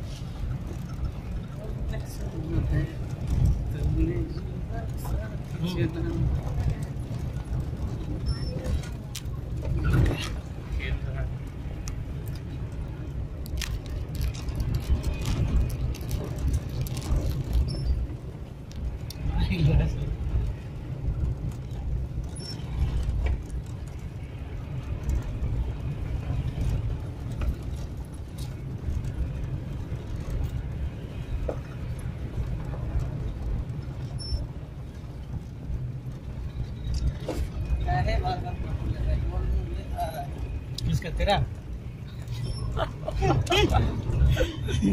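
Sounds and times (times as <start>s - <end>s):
vehicle rumble on dirt track: 0.0s - 44.9s.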